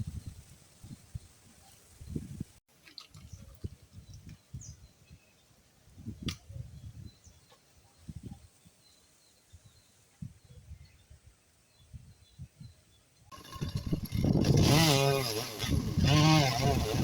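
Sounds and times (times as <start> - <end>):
wind buffeting microphone: 0.0 - 2.6, 3.2 - 5.2, 5.9 - 7.4, 9.5 - 17.0.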